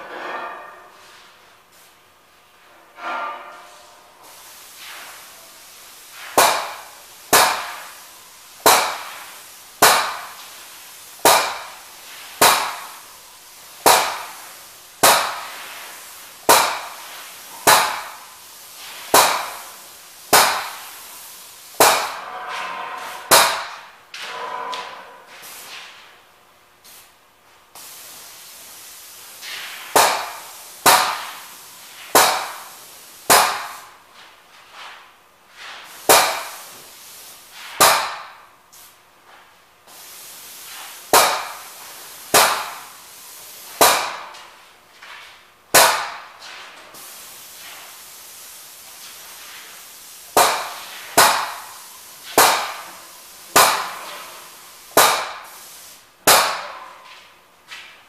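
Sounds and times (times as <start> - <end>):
spraying hiss: 3.8 - 22.3, 25.3 - 26.2, 26.8 - 34.1, 35.6 - 44.6, 45.7 - 56.9.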